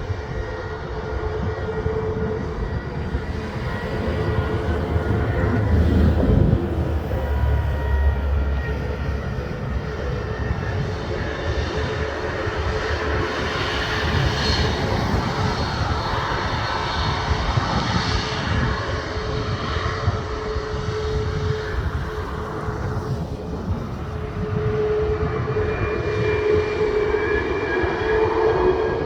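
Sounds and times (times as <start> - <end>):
airliner engines droning: 0.0 - 29.0.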